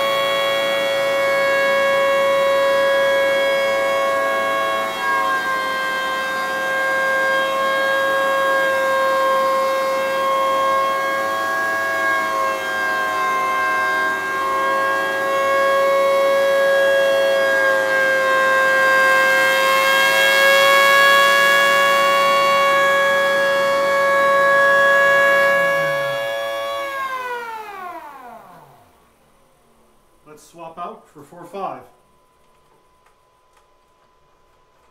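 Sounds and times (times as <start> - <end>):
siren steady tone: 0.0 - 29.2.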